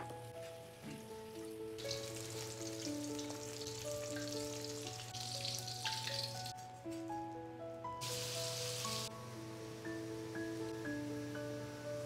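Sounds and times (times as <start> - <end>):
background music with slow held notes: 0.0 - 12.0
hot oil sizzling: 0.4 - 6.6, 8.0 - 12.0.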